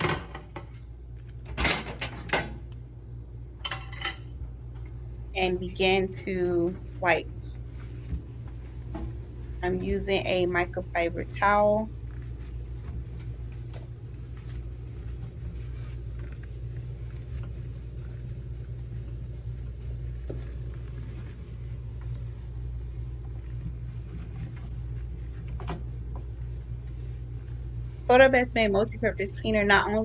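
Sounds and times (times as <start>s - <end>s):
steady low hum: 0.0s - 30.0s
towel rubbing inside microwave: 5.4s - 30.0s.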